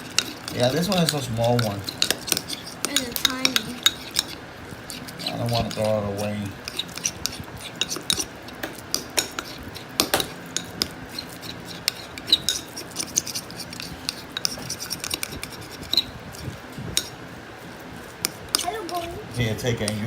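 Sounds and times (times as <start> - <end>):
spoon stirring slime in container: 0.0 - 17.2.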